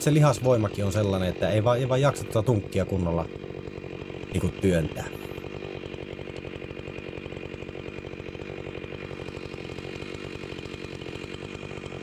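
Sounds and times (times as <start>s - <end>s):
chainsaw idling: 0.0s - 12.0s.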